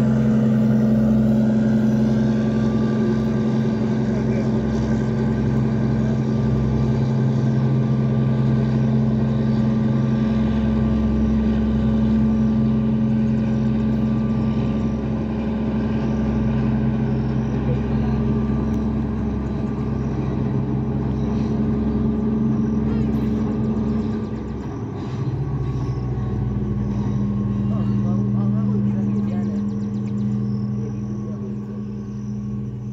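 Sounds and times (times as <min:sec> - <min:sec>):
engine running steadily: 0:00.0 - 0:32.9.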